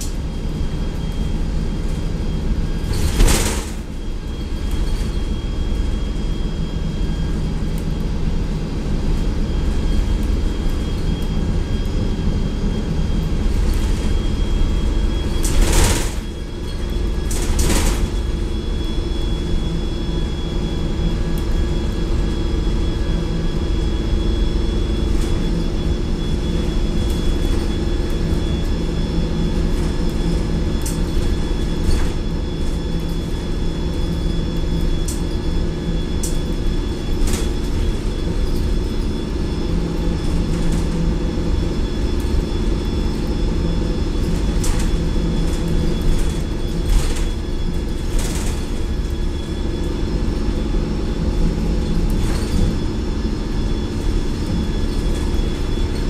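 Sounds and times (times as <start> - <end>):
bus engine rumbling: 0.0 - 56.0
high transmission whine: 0.0 - 56.0.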